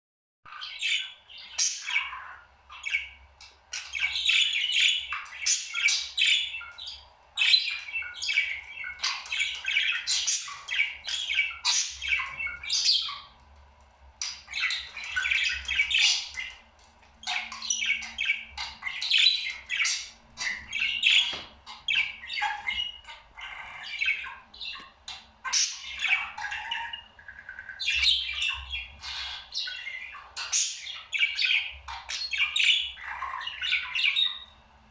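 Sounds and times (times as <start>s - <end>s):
parrot chattering and squawking: 0.5s - 13.4s, 14.2s - 16.6s, 17.2s - 34.6s.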